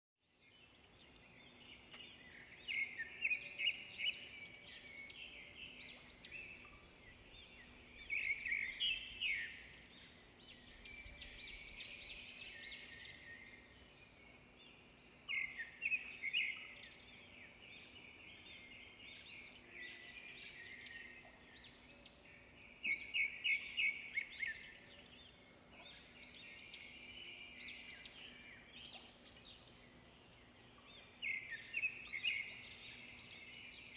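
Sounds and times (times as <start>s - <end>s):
small songbirds chirping: 0.2s - 33.9s.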